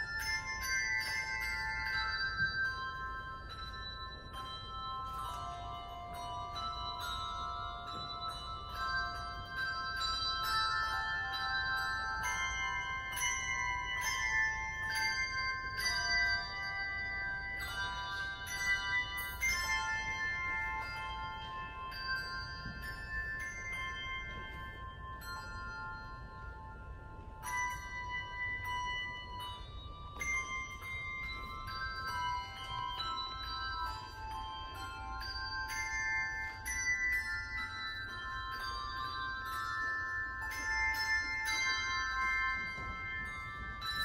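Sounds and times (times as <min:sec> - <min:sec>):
handbell choir playing: 0:00.0 - 0:44.0.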